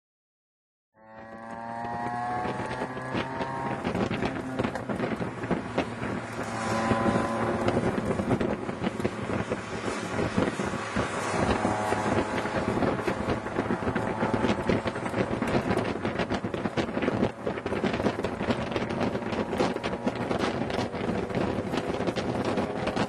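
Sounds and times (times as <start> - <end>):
race car engines revving: 1.0 - 23.0
wind buffeting the microphone: 1.6 - 23.0.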